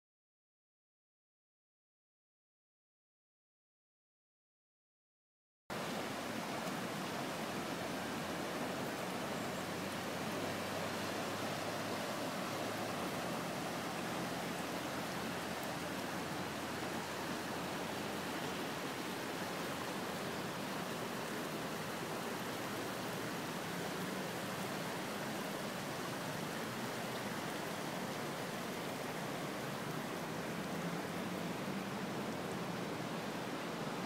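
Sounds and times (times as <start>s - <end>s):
floodwater rushing: 5.7s - 34.0s.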